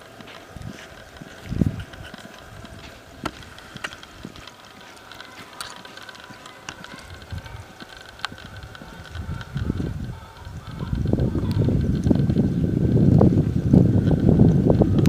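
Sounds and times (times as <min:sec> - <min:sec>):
muffled hoofbeats on dirt: 0:00.0 - 0:15.0
sharp clicks: 0:00.1 - 0:12.5.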